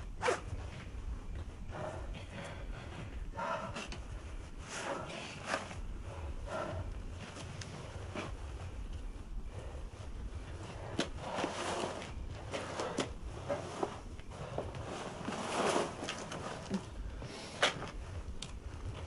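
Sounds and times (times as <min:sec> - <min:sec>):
clothing rustling: 0:00.0 - 0:19.0.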